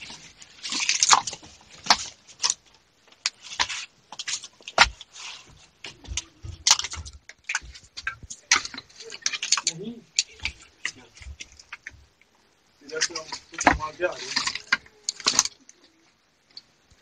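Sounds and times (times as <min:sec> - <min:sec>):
footsteps crunching over rubble: 0:00.0 - 0:15.6.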